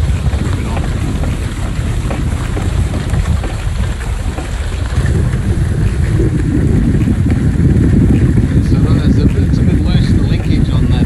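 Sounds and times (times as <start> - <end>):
water rushing past hull: 0.0 - 11.0
wind buffeting microphone: 0.0 - 11.0.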